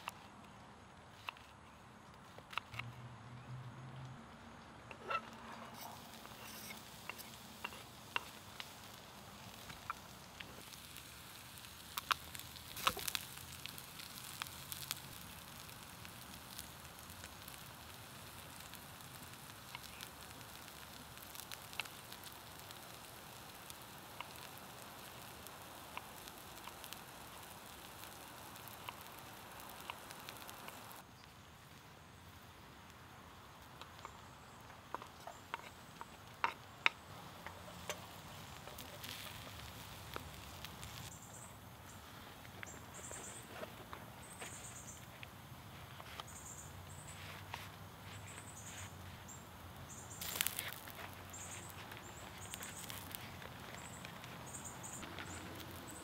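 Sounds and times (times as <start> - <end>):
shallots sizzling in a pan: 5.0 - 56.0.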